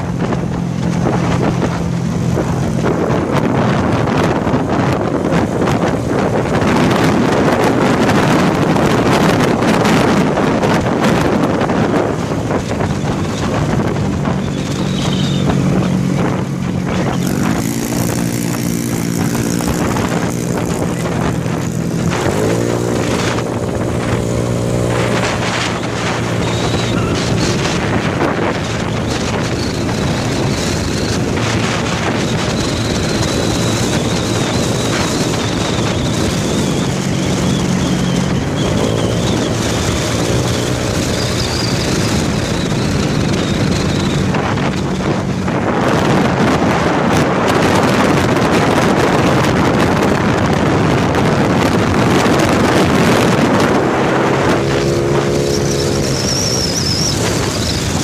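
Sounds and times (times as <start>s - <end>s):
motorcycle engine revving: 0.0s - 58.0s
wind buffeting microphone: 0.0s - 58.0s.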